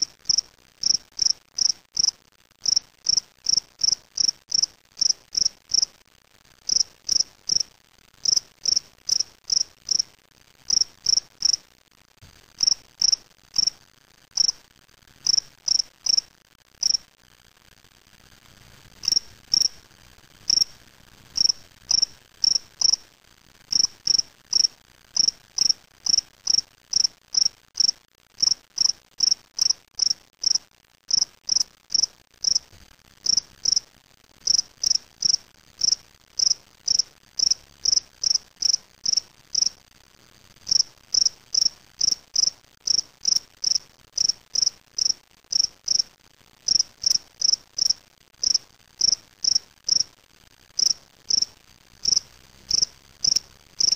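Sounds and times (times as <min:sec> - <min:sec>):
cricket chirping: 0:00.0 - 0:05.9, 0:06.7 - 0:10.1, 0:10.7 - 0:11.6, 0:12.6 - 0:13.8, 0:14.4 - 0:14.6, 0:15.2 - 0:17.0, 0:19.0 - 0:19.8, 0:20.5 - 0:20.8, 0:21.4 - 0:23.0, 0:23.7 - 0:39.8, 0:40.7 - 0:46.1, 0:46.7 - 0:50.1, 0:50.8 - 0:53.9.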